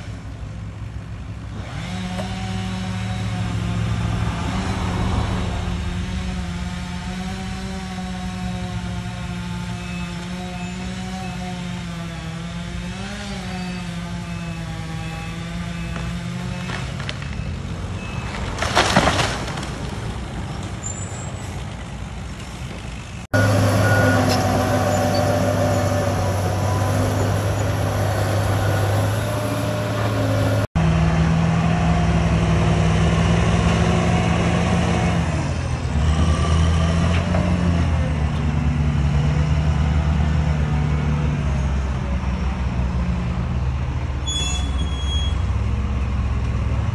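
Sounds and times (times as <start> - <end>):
heavy diesel engines revving: 0.0 - 18.5, 20.2 - 46.9.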